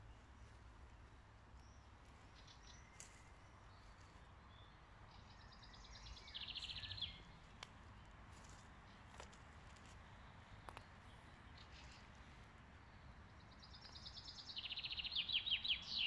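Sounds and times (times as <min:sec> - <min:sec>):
songbird chirps: 0:00.0 - 0:16.0.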